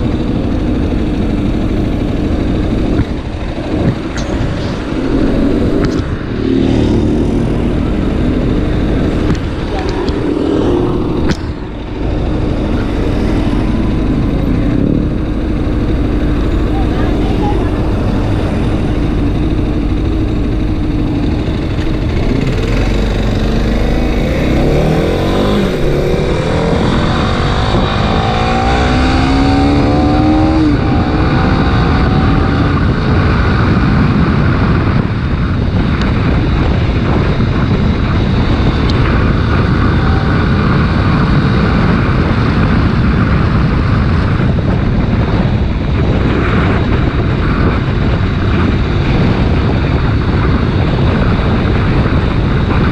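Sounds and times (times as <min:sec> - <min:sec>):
motorcycle engine accelerating: 0:00.0 - 0:52.9
wind noise on microphone: 0:00.0 - 0:52.9.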